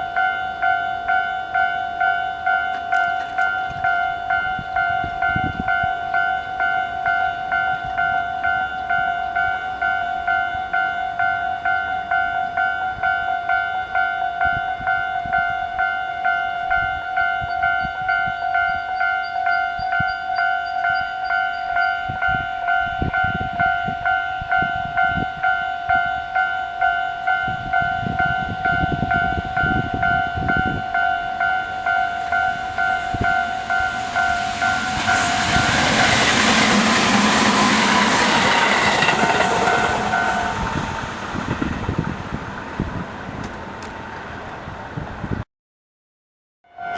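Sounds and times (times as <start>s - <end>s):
electric train passing loudly: 0.0s - 45.4s
train rumbling on rails: 0.0s - 45.4s.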